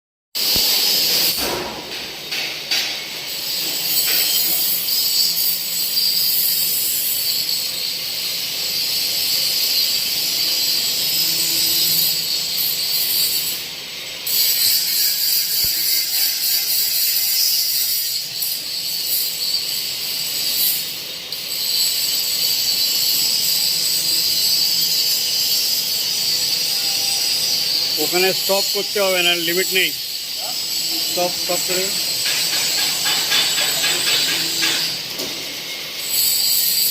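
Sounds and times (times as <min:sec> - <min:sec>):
furnace machinery hissing: 0:00.4 - 0:36.9.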